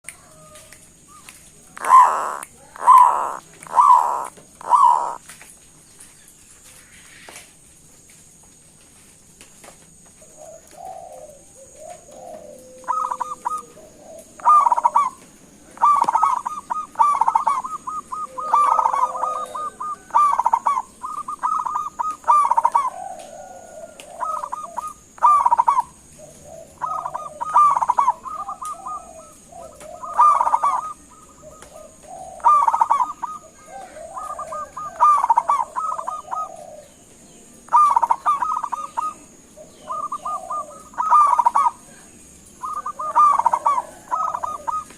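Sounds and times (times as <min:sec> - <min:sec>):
dove cooing: 0:00.0 - 0:05.3, 0:10.2 - 0:44.9.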